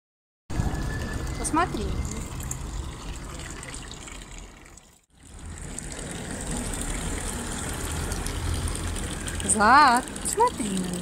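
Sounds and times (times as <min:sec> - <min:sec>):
water trickling into fountain: 0:00.5 - 0:11.0.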